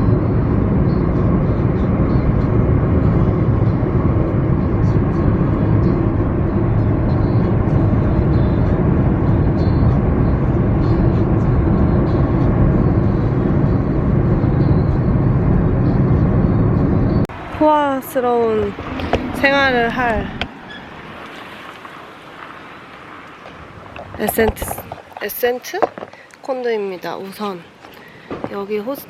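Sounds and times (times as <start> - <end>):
vehicle road and engine noise: 0.0 - 29.0.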